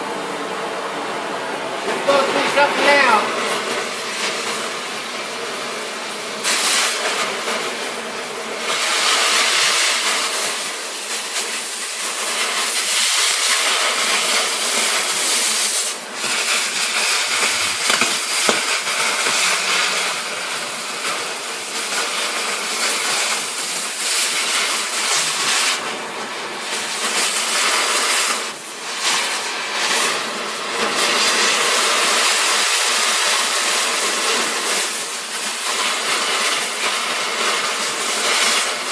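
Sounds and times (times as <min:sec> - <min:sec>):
cutting torch hissing and crackling: 0:00.0 - 0:38.9.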